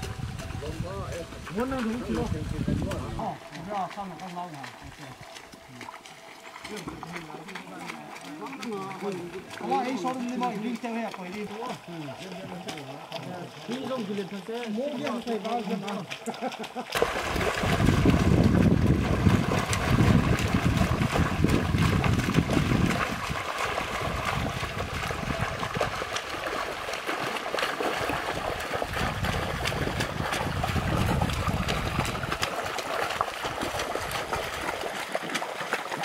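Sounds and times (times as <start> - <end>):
feet splashing in water: 0.0 - 36.0
running water: 0.0 - 36.0.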